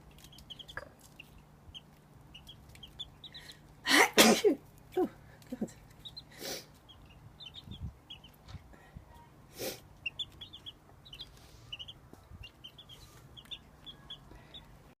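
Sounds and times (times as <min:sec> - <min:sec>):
chicks peeping: 0:00.0 - 0:03.8, 0:04.6 - 0:09.2, 0:09.8 - 0:14.9.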